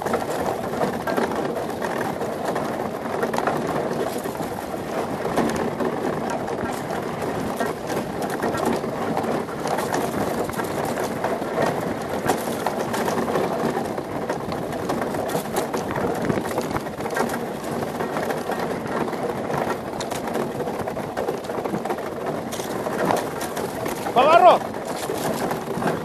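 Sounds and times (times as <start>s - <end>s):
clicks and knocks from rigging: 0.0s - 26.0s
runners grinding on ice: 0.0s - 26.0s.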